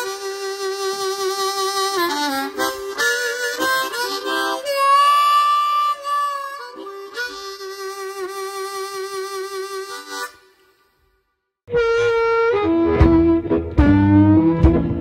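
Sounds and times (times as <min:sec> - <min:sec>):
blues harmonica playing: 0:00.0 - 0:11.0, 0:11.7 - 0:15.0.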